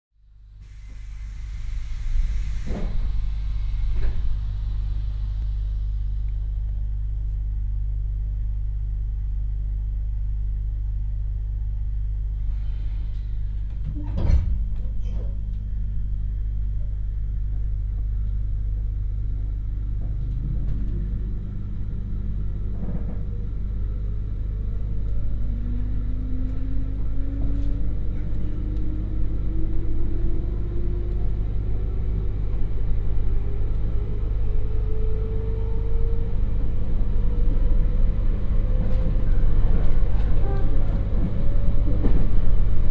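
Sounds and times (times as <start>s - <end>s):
low electrical hum: 0.3s - 35.2s
train traction motor whine: 0.7s - 8.6s, 15.6s - 42.9s.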